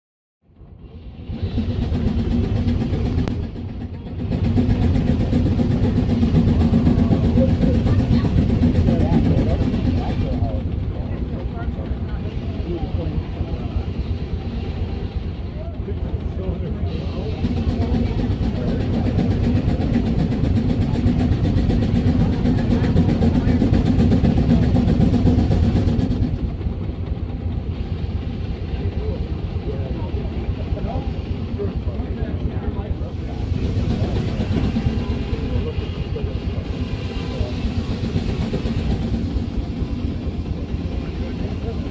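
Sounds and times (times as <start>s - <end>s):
low rumble of sawmill: 0.4s - 41.9s
steam traction engine exhaust beating: 0.5s - 41.9s.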